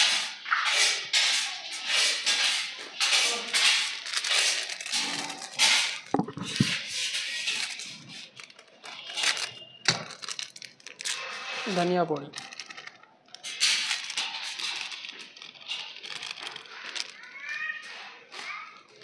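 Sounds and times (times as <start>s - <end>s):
plastic packets crinkling: 1.5s - 19.0s.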